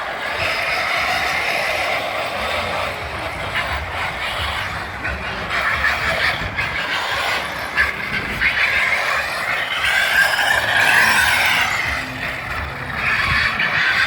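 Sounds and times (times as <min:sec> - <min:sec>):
model truck drivetrain and tyres: 0:00.0 - 0:14.0.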